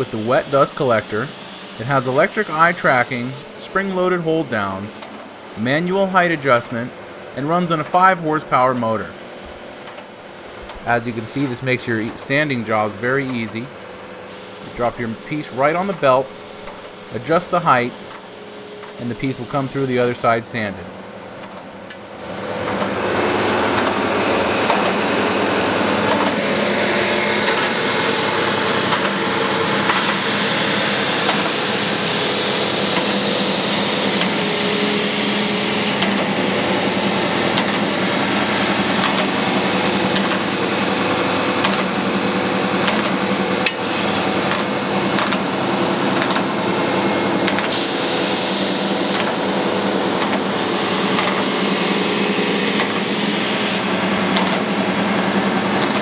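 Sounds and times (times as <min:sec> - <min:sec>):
belt grinder whirring hum: 0:09.2 - 0:56.0.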